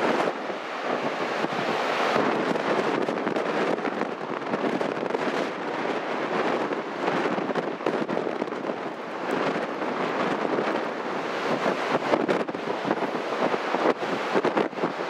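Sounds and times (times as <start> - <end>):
strong wind: 0.0 - 15.0
surf breaking on beach: 0.0 - 15.0
wind buffeting microphone: 0.0 - 15.0.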